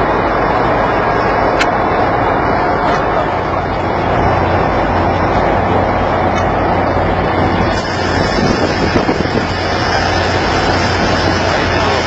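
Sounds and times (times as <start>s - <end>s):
marine machinery drone: 0.0s - 12.0s
wind noise: 0.0s - 12.0s.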